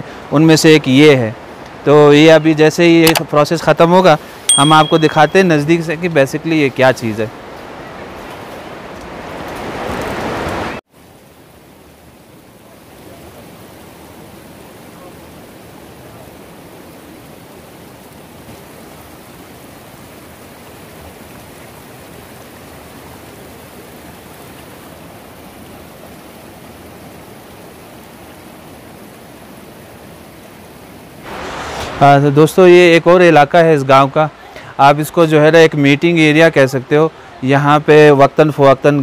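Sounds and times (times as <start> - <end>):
river rushing over stones: 3.8 - 39.0.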